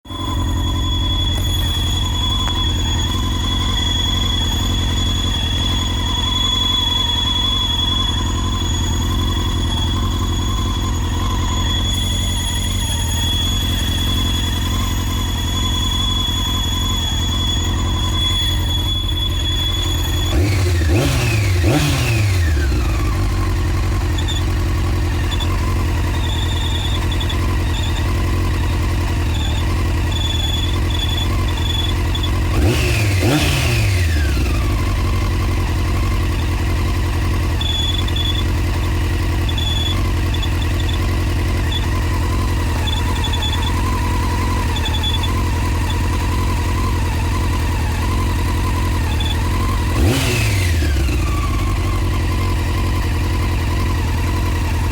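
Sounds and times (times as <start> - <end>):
faint high-pitched whistle: 0.0 - 54.9
motorcycle engine idling and revving: 0.0 - 54.9.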